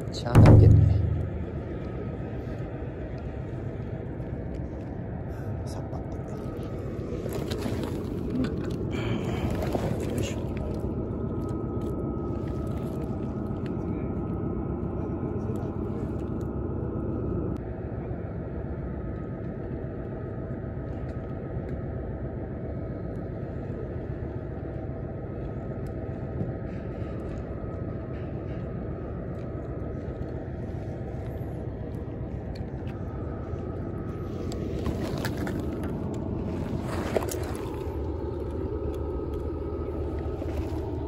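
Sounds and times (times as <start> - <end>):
faint constant whine: 0.0 - 41.0
low rumble of distant machinery: 0.0 - 41.0.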